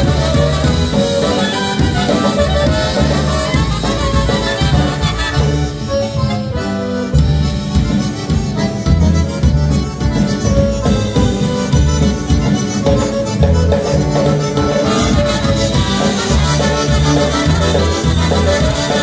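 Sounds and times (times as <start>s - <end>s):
bouncing bass line: 0.0s - 19.0s
polka band playing: 0.0s - 19.0s.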